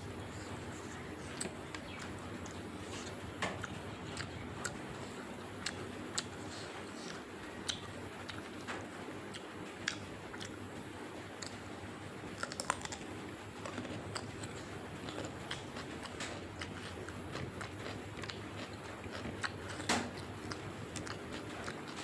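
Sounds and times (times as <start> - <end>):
person chewing: 0.0 - 8.7, 9.3 - 10.6, 12.4 - 22.0.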